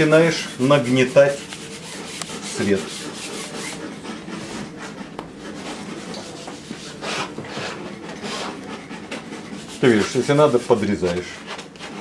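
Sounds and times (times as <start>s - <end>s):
paint scraped on canvas: 0.0s - 12.0s.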